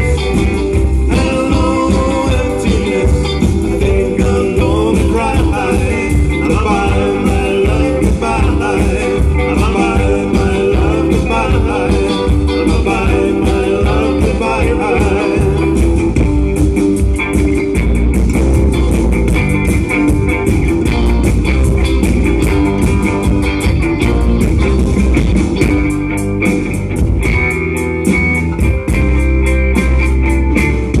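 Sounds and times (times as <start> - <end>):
live rock band playing: 0.0 - 31.0.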